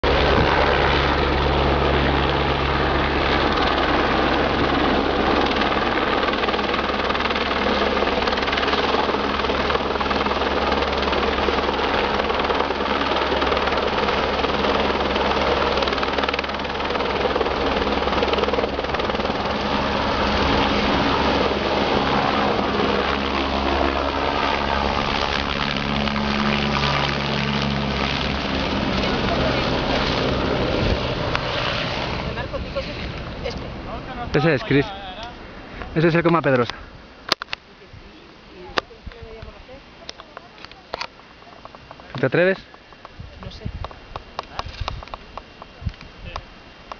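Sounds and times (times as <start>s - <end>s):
helicopter rotor drone: 0.0s - 46.9s.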